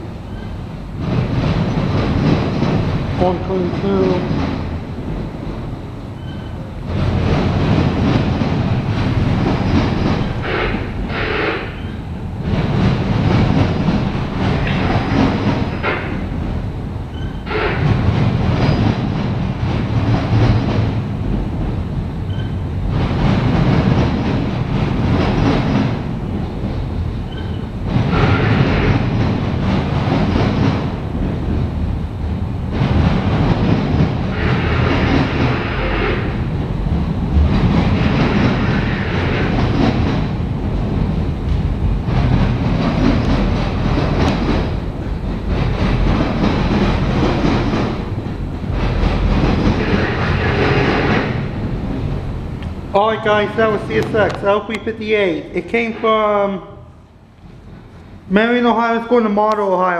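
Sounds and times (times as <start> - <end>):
wheels clattering over rail joints: 0.0 - 55.0
freight train cars rolling past: 0.0 - 59.9.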